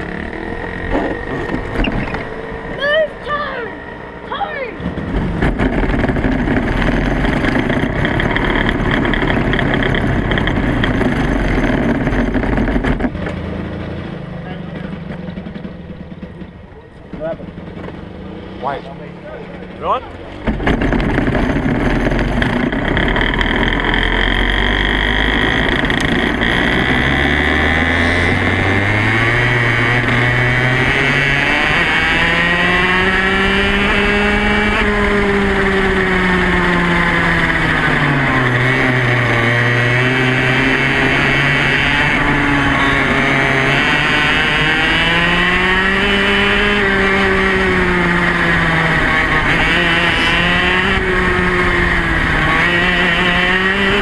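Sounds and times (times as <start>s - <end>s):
two-stroke kart engine running: 0.0s - 54.0s.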